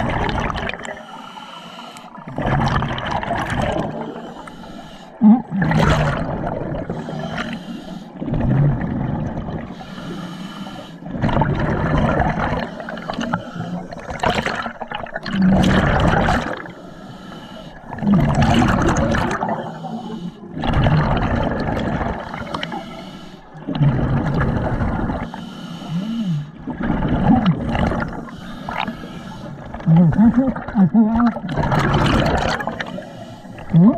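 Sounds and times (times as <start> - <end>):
diver exhaling bubbles: 0.0 - 1.1, 2.1 - 10.2, 11.0 - 16.8, 17.8 - 23.0, 23.6 - 25.4, 26.0 - 33.9.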